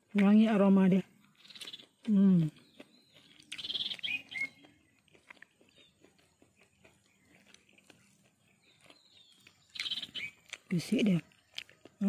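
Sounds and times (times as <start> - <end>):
chewing: 0.0 - 12.0
bird chirping: 0.6 - 12.0.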